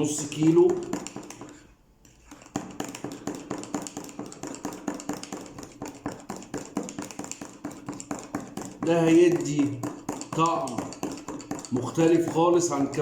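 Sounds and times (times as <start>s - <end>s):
spoon tapping against cup: 0.0s - 13.0s.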